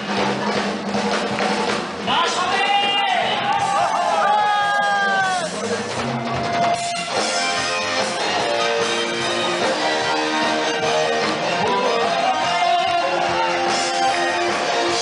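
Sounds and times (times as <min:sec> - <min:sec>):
live band with strummed guitars: 0:00.0 - 0:15.0.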